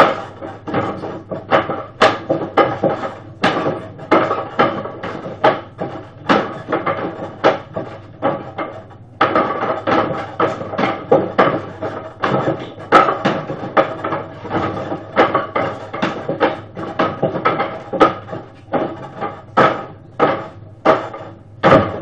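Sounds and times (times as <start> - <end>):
sharp wooden knocks: 0.0 - 22.0.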